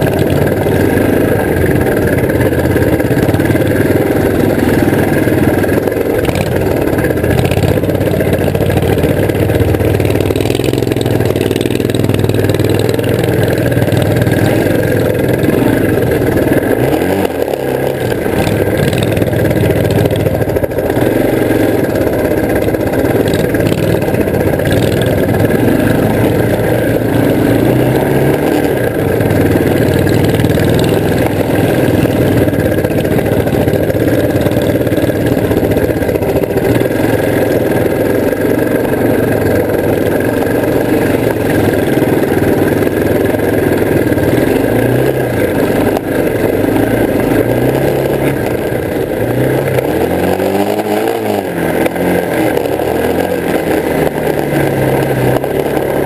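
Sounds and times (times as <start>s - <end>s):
vehicle engine running loudly: 0.0s - 56.0s.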